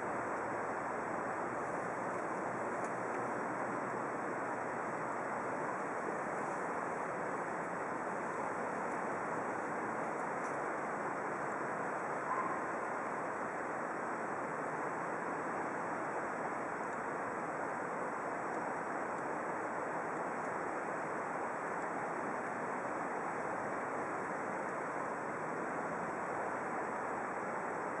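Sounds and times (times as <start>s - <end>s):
steady outdoor rushing noise: 0.0s - 28.0s.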